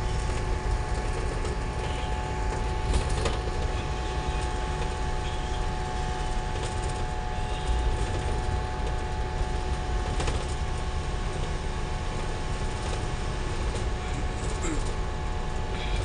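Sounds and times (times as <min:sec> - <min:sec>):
constant whine: 0:00.0 - 0:16.0
engine and road rumble: 0:00.0 - 0:16.0.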